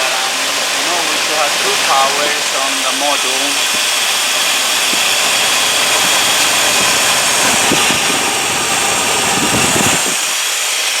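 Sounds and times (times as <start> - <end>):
loud steady hiss: 0.0 - 11.0
pickup engine idling: 0.0 - 11.0.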